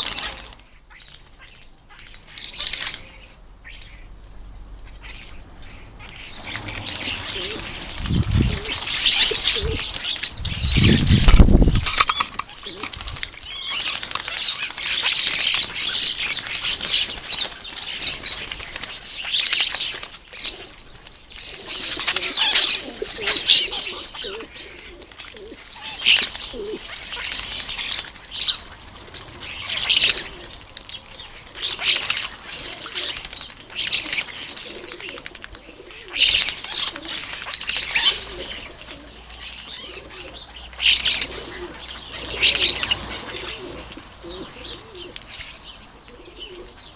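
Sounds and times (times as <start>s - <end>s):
starlings screeching and chattering: 0.0s - 46.9s.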